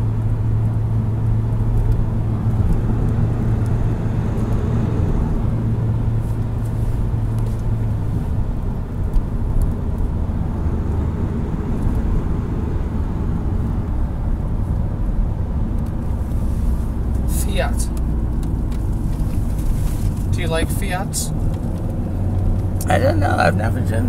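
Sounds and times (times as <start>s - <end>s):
car engine hum: 0.0s - 24.0s
road rumble: 0.0s - 24.0s.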